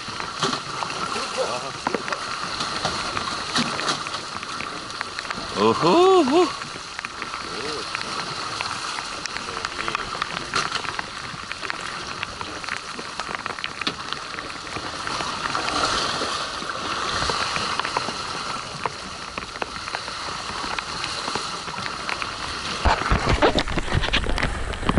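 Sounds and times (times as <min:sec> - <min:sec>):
choppy sea water washing: 0:00.0 - 0:24.9
water droplets ticking on camera: 0:00.0 - 0:24.9.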